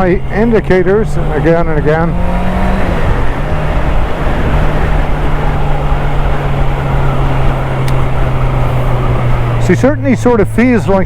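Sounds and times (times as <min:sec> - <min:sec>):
wind rush: 0:00.0 - 0:09.7
motorcycle engine running: 0:00.0 - 0:11.0.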